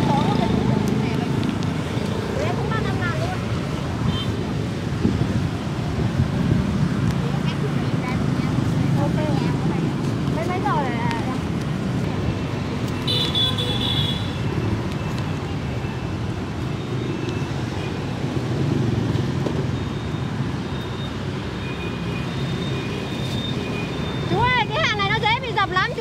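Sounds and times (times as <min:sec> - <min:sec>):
motorbikes passing: 0:00.0 - 0:26.0.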